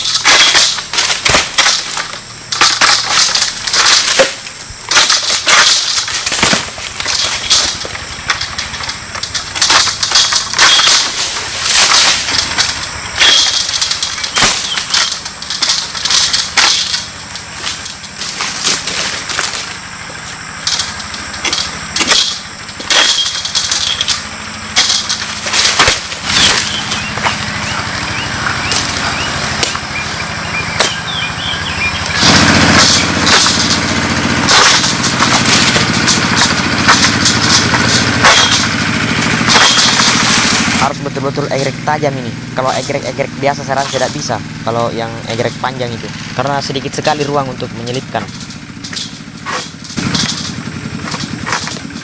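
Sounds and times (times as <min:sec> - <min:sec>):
sickle rasping and cracking: 0:00.0 - 0:31.1, 0:32.0 - 0:52.0.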